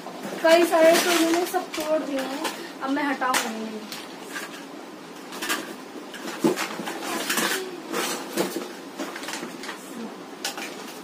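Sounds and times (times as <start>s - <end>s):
plastic toys clattering: 0.0s - 11.0s.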